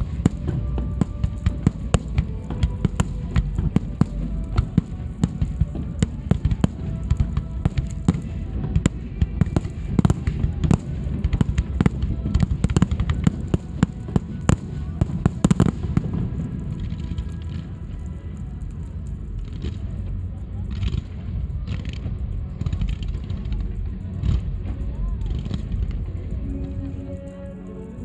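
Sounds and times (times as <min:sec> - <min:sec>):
fireworks bangs and crackling: 0:00.0 - 0:27.3.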